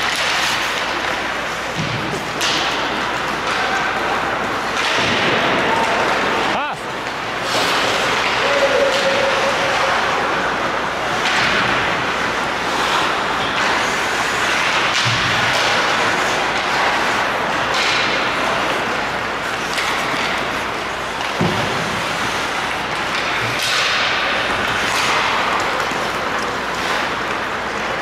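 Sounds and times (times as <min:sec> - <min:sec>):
hiss of play on ice: 0:00.0 - 0:28.0.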